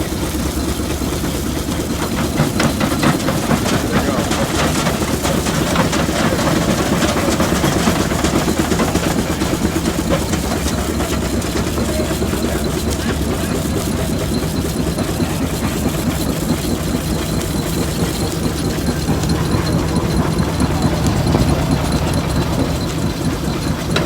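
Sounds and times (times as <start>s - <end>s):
rock crusher rattling: 0.0s - 24.0s.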